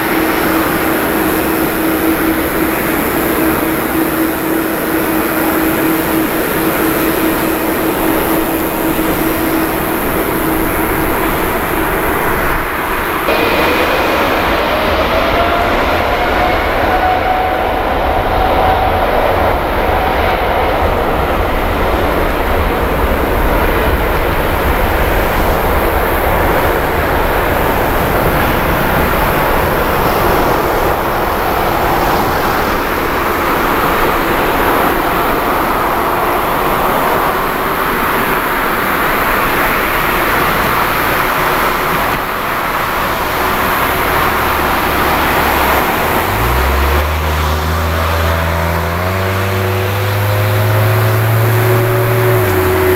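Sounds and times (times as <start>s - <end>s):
engine rising in pitch: 0.0s - 52.9s
jet engine roar: 0.0s - 52.9s.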